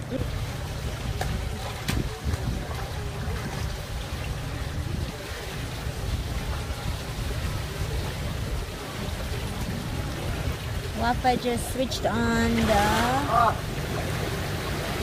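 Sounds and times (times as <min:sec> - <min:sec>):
pool water lapping: 0:00.0 - 0:15.0.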